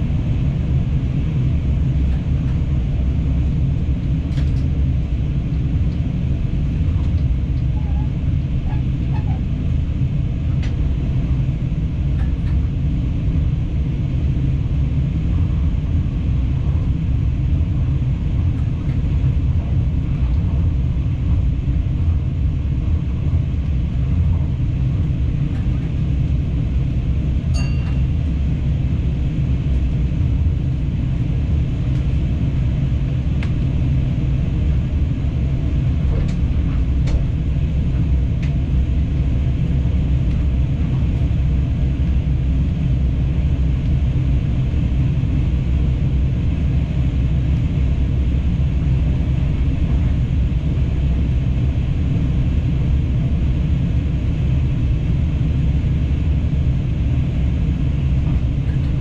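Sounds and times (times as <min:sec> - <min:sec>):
train running low rumble: 0:00.0 - 0:59.0.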